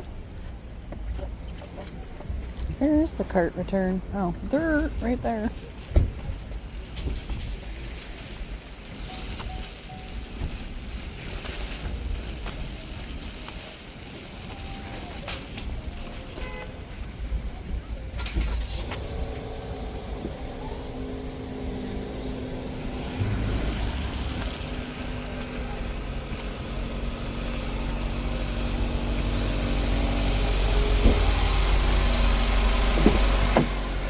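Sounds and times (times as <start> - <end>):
low car engine hum: 0.0 - 34.0.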